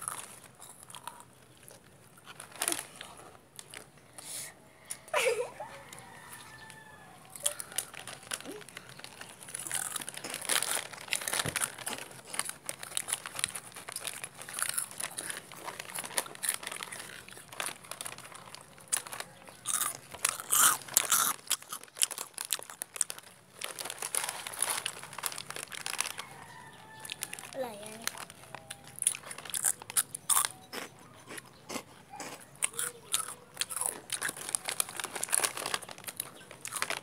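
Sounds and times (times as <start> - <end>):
crunchy food chewing: 0.0 - 37.0.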